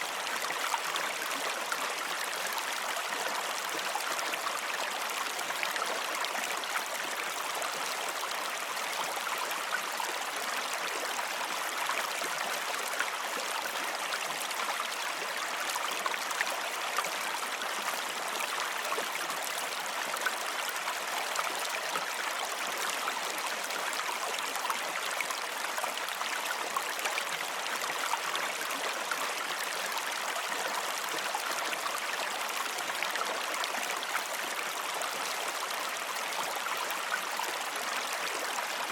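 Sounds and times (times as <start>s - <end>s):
running water babbling: 0.0s - 38.9s.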